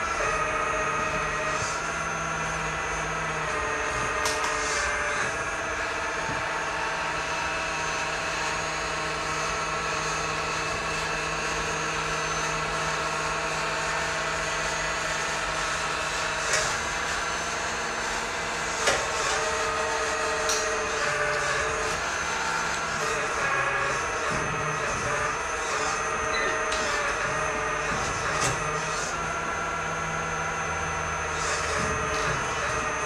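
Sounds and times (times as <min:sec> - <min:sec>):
hydraulic pump whine: 0:00.0 - 0:33.0.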